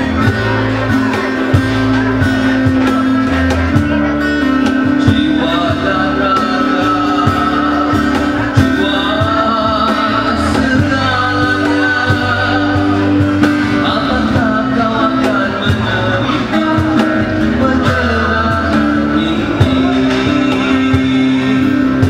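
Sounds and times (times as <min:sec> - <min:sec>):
guitar: 0:00.0 - 0:22.0
man singing into microphone: 0:00.0 - 0:22.0
steady drum beat: 0:00.0 - 0:22.0.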